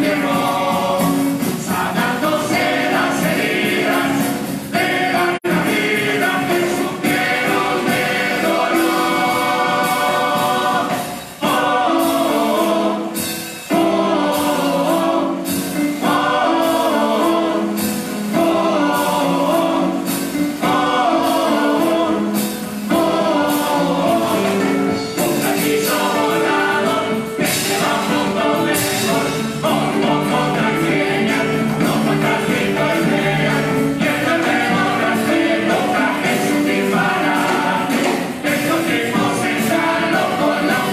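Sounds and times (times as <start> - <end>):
chorus singing together: 0.0 - 40.9
drum and cymbal strokes: 0.0 - 40.9.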